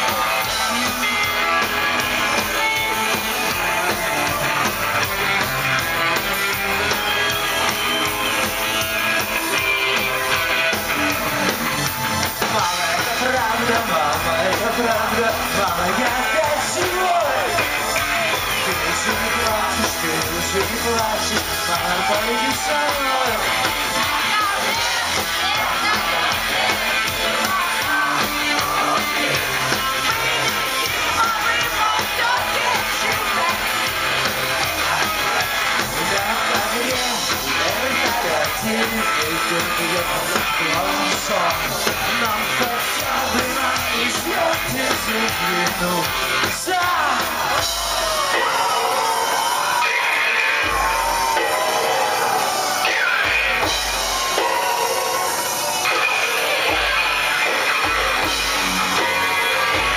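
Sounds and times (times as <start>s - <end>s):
man singing: 0.0s - 56.7s
crowd noise: 0.0s - 59.9s
drums: 0.0s - 59.9s
electric guitar: 0.0s - 59.9s.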